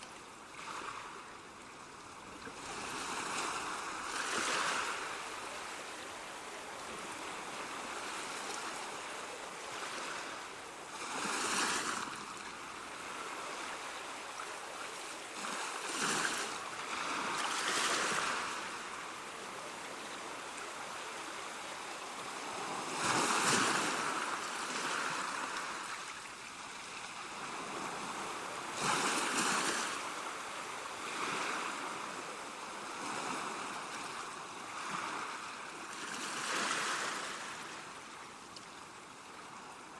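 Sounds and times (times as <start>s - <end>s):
ocean waves breaking: 0.0s - 38.2s.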